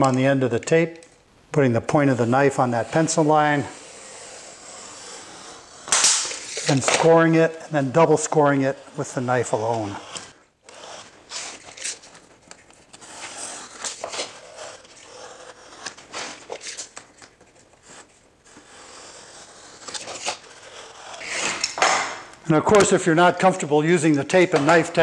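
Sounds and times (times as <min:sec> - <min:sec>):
knife scoring drywall paper: 0:02.0 - 0:25.0.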